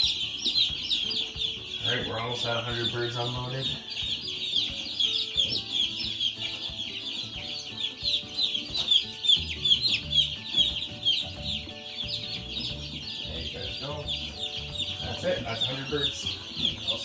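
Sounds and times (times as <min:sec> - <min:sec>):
flock of chicks peeping: 0:00.0 - 0:17.0.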